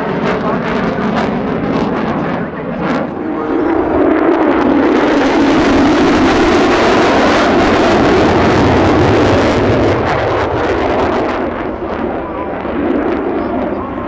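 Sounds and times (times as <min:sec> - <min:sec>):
fighter jet roar: 0:00.0 - 0:14.0.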